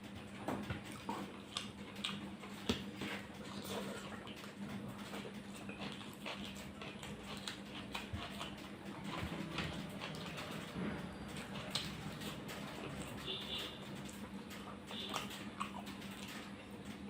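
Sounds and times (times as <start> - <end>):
steady low hum: 0.0 - 17.0
wet chewing and lip-smacking: 0.1 - 17.0.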